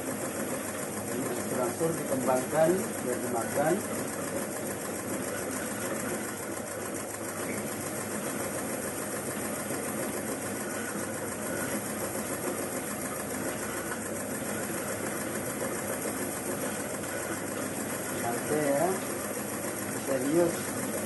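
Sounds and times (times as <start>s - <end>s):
rotating scraper stripping leaves: 0.0s - 21.0s
stripping machine running: 0.0s - 21.0s.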